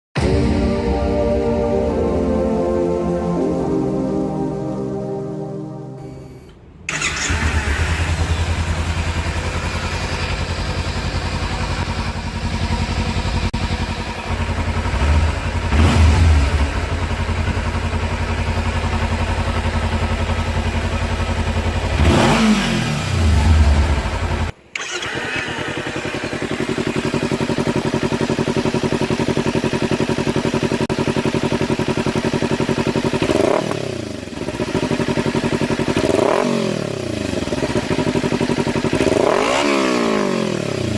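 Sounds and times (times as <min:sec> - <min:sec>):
engine throttle blips: 0:00.2 - 0:40.9
motorcycle engine idling: 0:06.9 - 0:40.9.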